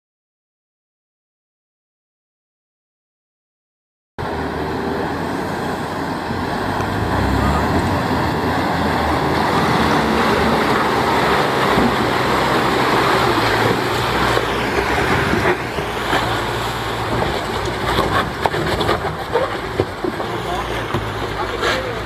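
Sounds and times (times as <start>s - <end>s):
vehicle engine: 4.2s - 22.0s
water rushing and splashing: 4.2s - 22.0s.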